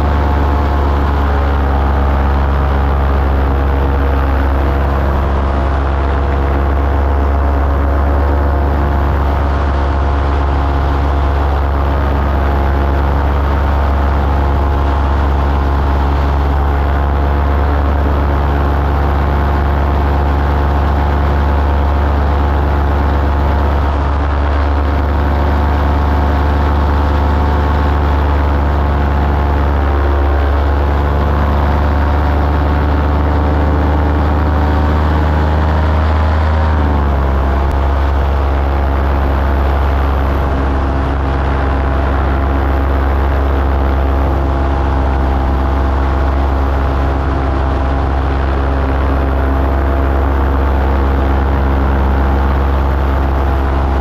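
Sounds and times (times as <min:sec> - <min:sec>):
small aircraft engine running: 0:00.0 - 0:54.0.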